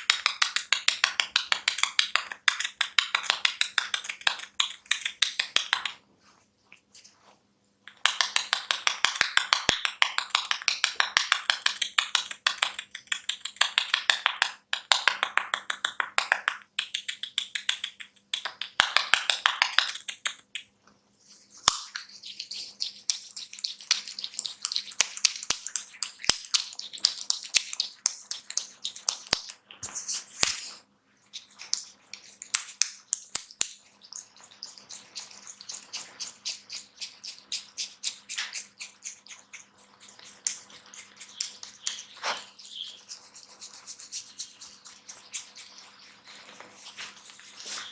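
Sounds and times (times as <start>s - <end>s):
hair crackling between fingers: 7.9s - 47.9s.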